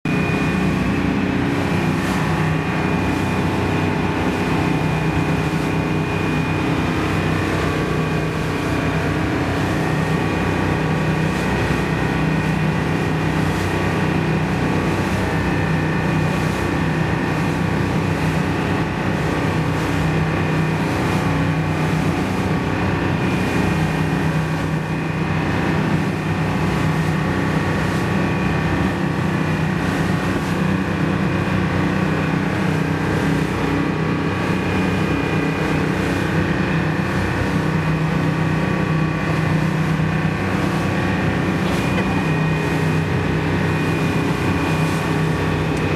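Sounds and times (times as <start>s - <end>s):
boat engine droning: 0.0s - 45.9s.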